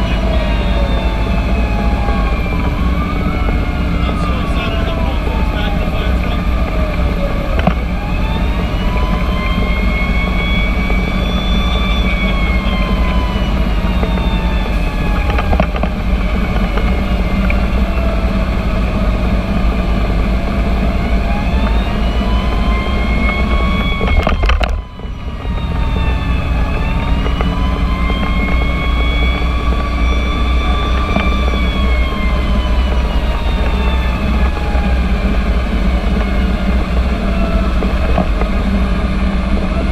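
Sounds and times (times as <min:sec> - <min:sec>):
fire engine siren wailing: 0:00.0 - 0:39.9
truck engine rumble and road noise: 0:00.0 - 0:39.9.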